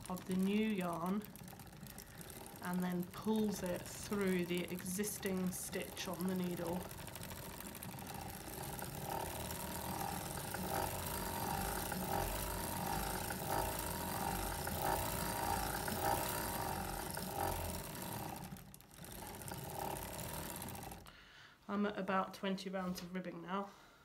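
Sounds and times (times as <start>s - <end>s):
sock knitting machine clattering: 0.0s - 21.1s.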